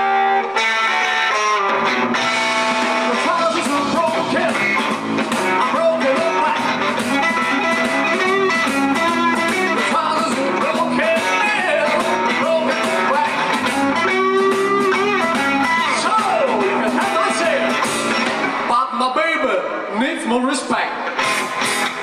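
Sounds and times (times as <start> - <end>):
electric guitar: 0.0 - 18.8, 20.6 - 22.0
blues band playing live: 0.0 - 22.0.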